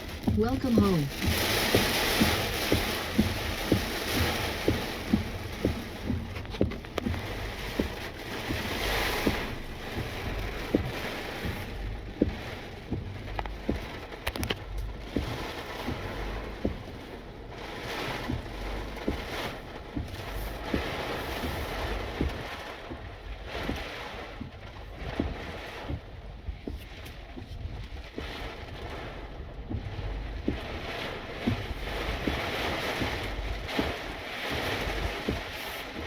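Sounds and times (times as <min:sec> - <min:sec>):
low thumps: 0:00.0 - 0:36.0.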